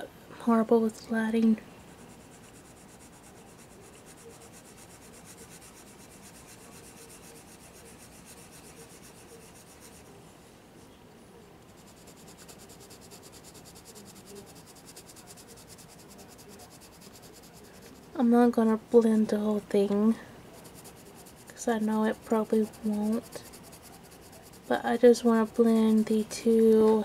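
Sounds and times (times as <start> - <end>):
pencil scratching on paper: 1.8 - 10.1, 11.7 - 18.2, 19.4 - 26.9.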